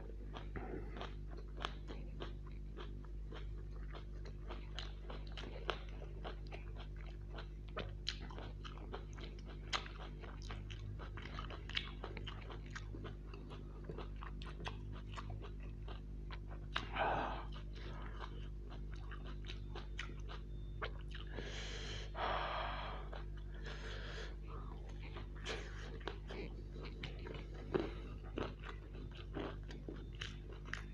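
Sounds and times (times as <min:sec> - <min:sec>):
chewing fried snacks: 0:00.0 - 0:30.9.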